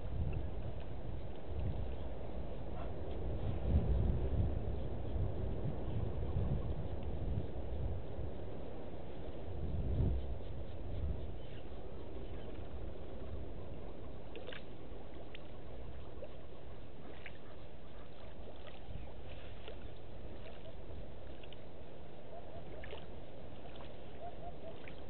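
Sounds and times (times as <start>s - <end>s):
wind over microphone: 0.0s - 25.0s.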